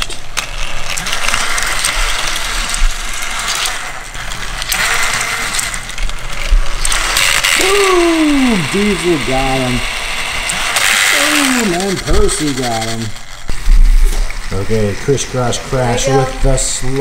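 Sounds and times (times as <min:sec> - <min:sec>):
toy train motors whirring: 0:00.0 - 0:17.0.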